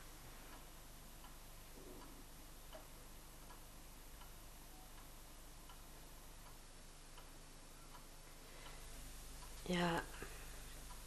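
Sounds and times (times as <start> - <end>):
low room tone hum: 0.0 - 11.0.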